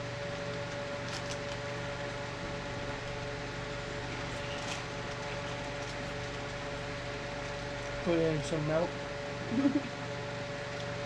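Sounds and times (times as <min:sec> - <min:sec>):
appliance humming: 0:00.0 - 0:11.0.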